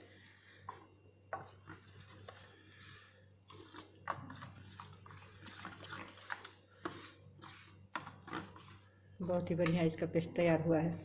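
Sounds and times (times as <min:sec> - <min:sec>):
wet stirring of batter: 0:00.1 - 0:09.8.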